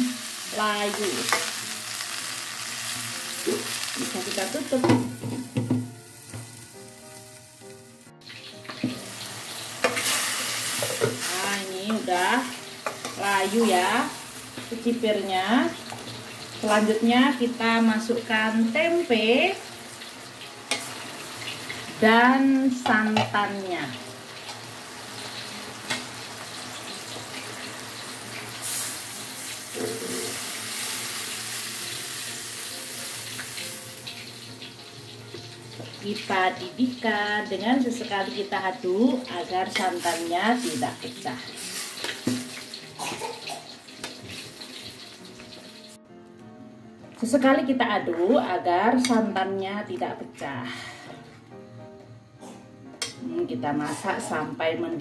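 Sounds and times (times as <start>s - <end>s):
beans sizzling in a pot: 0.0s - 49.9s.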